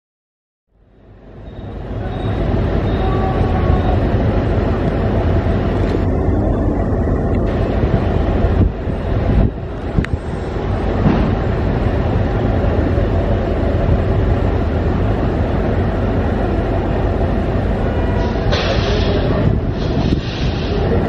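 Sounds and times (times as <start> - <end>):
diesel engine rumble: 0.8 - 21.0.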